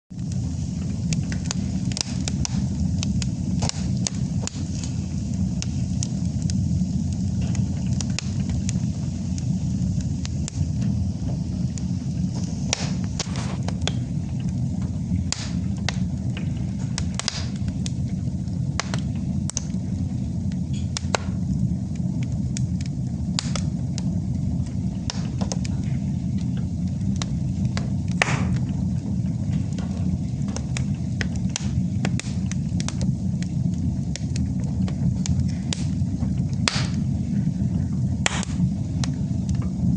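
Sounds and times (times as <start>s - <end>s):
low rumble of flames: 0.1s - 39.9s
wood fire crackling and popping: 0.1s - 39.9s.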